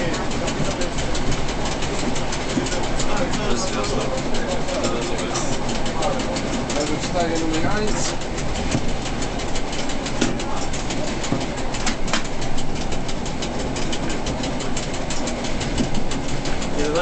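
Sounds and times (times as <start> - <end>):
rapid irregular clatter: 0.0 - 17.0
train rumbling: 0.0 - 17.0.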